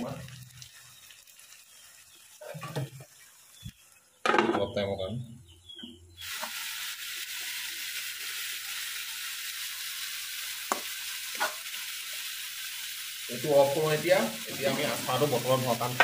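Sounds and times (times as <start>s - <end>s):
food sizzling in a pan: 0.0s - 4.2s, 6.1s - 16.0s.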